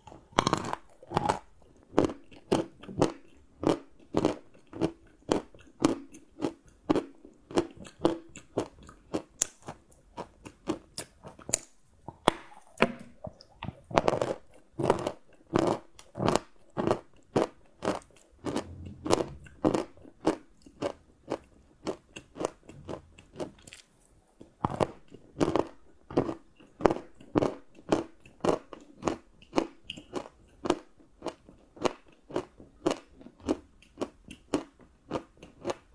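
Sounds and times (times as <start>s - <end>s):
chewing crunchy chocolate: 0.0s - 35.9s.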